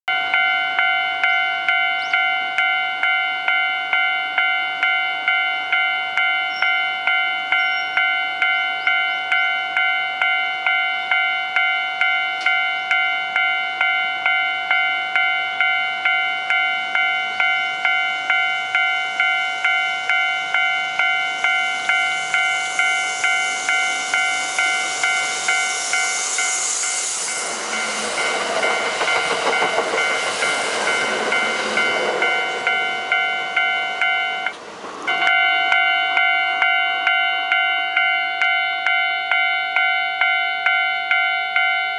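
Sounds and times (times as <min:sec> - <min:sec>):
electric train passing: 0:00.1 - 0:41.9
level crossing bell ringing: 0:00.1 - 0:41.9
wheels rattling on rail: 0:04.4 - 0:41.9.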